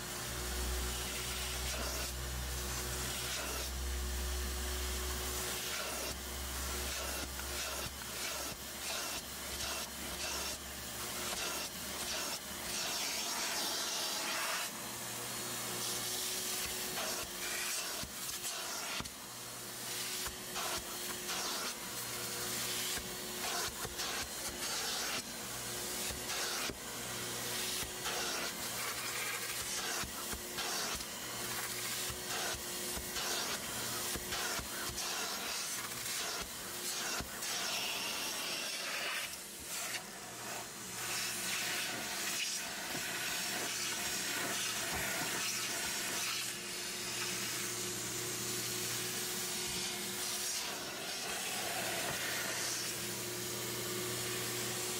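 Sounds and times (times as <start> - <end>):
vacuum hiss: 0.0 - 54.9.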